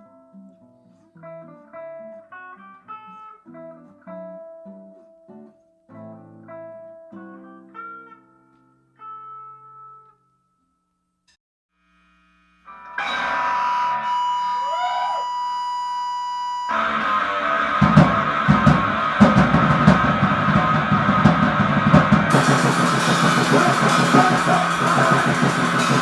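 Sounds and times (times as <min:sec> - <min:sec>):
acoustic guitar chords: 0:00.0 - 0:10.2, 0:15.2 - 0:26.0.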